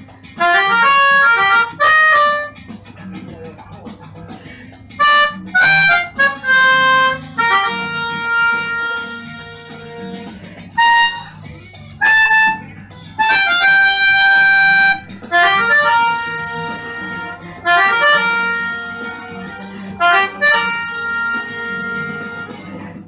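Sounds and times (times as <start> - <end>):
melodica notes and chords: 0.0 - 2.8, 4.9 - 23.0.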